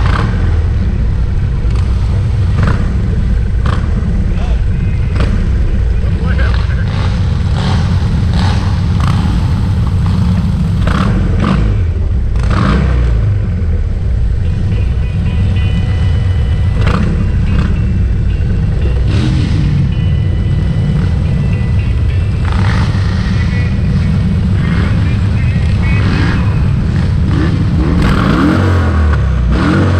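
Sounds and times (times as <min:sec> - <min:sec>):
motorcycle engines rumbling: 0:00.0 - 0:29.9.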